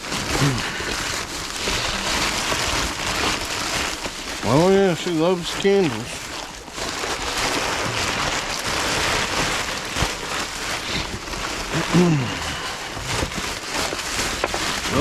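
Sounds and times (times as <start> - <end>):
plastic bags rustling: 0.0 - 15.0.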